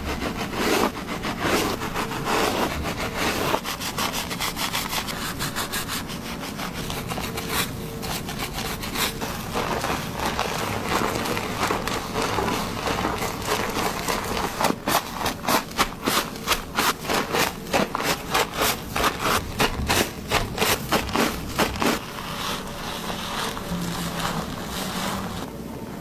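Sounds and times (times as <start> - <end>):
hands rubbing lathered hair: 0.0 - 25.5.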